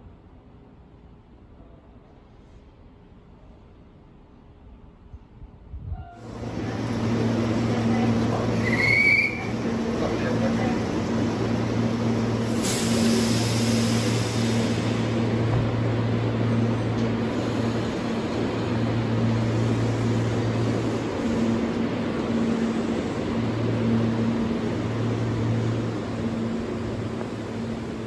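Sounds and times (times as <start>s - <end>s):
train rumble and hiss: 0.0s - 28.0s.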